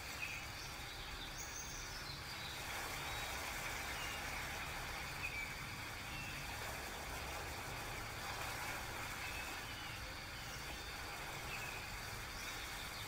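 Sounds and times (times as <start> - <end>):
hiss: 0.0 - 13.0.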